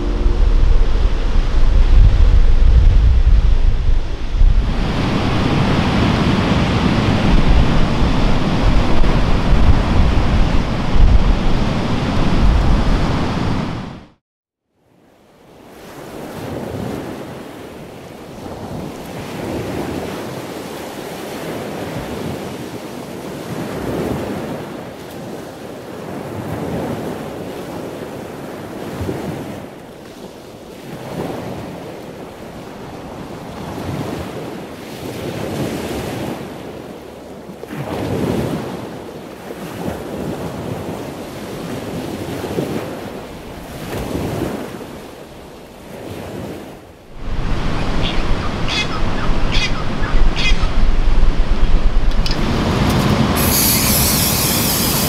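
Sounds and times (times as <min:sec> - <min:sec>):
ocean surf breaking on beach: 0:00.0 - 0:14.1, 0:15.6 - 0:55.0.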